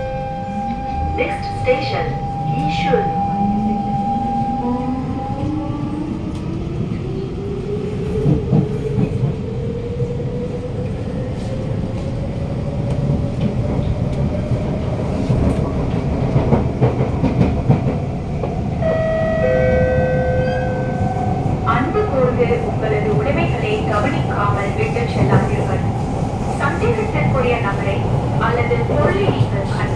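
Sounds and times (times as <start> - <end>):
train running rumble: 0.0 - 19.0, 19.8 - 29.9.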